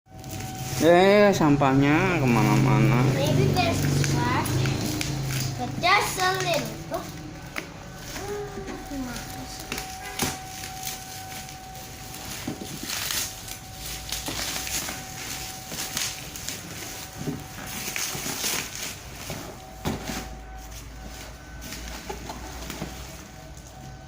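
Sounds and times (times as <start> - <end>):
plastic and cardboard packaging rustling: 0.1 - 24.0.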